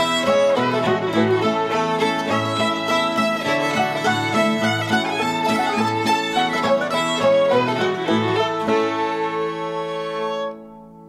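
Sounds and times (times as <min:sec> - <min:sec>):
old-time string band playing: 0:00.0 - 0:10.8.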